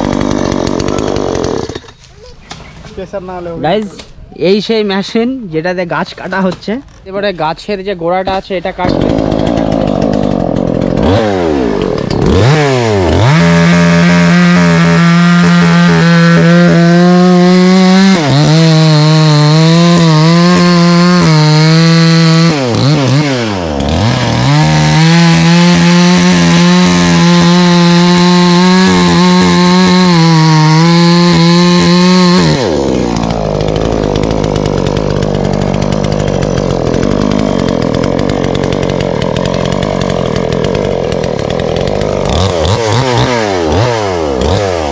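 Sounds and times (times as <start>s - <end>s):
chainsaw cutting tree trunk: 0.0s - 2.6s, 8.2s - 44.9s.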